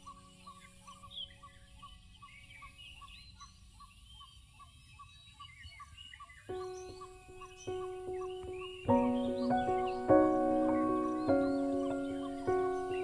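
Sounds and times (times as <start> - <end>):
birds chirping: 0.0 - 13.0
scattered bird calls: 0.0 - 13.0.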